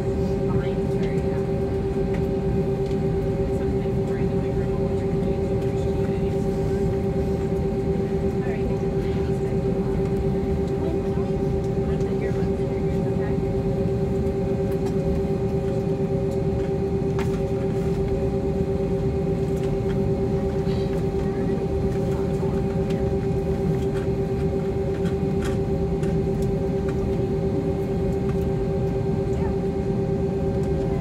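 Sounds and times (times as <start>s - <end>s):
jet engines idling in cabin: 0.0s - 31.0s.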